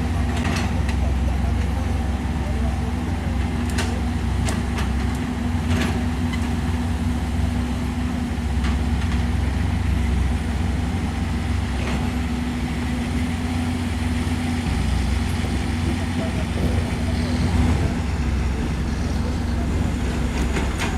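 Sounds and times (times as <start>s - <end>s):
diesel engine humming: 0.0s - 20.9s.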